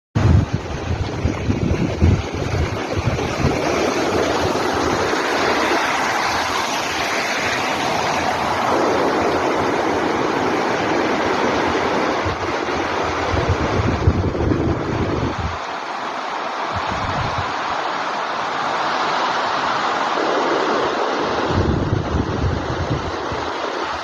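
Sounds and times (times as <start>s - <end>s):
wind buffeting microphone: 0.2s - 15.8s, 16.7s - 18.0s, 19.4s - 24.0s
sea waves rushing: 0.2s - 24.0s.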